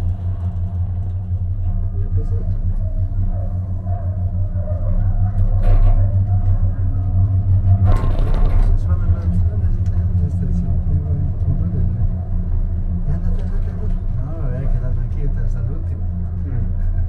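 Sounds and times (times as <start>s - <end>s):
cable car gondola rumbling: 0.0s - 17.0s.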